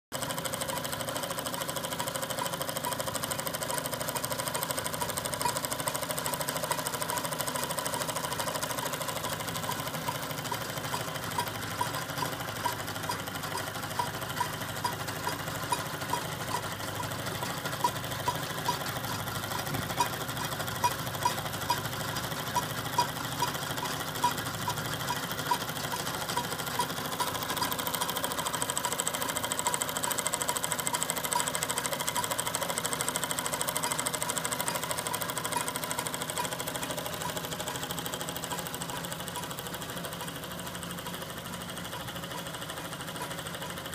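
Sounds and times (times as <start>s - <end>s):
steam engine mechanical clatter: 0.1s - 43.9s.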